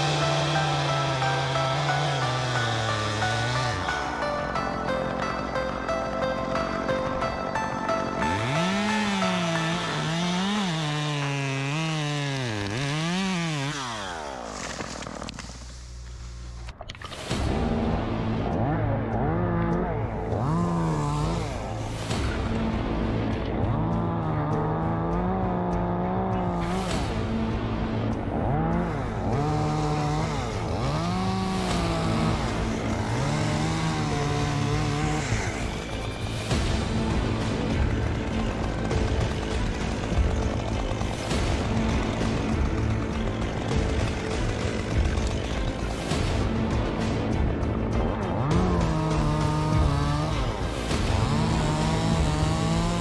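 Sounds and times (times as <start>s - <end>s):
small gasoline engine revving: 0.0s - 7.0s, 7.6s - 16.0s, 17.5s - 53.0s.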